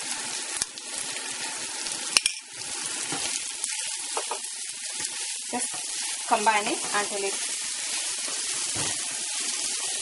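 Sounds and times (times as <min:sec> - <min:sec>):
onion and tomato sizzling: 0:00.0 - 0:10.0.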